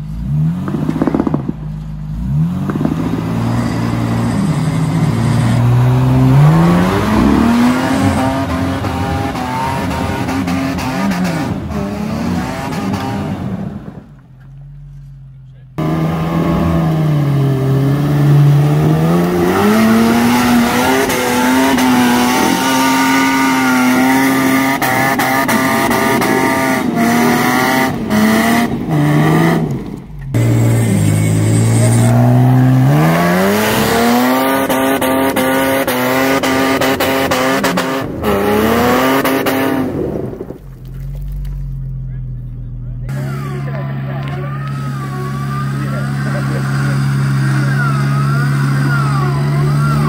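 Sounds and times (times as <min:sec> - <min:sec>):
engine revving hard: 0:02.2 - 0:14.0, 0:15.8 - 0:40.5, 0:43.1 - 0:50.0.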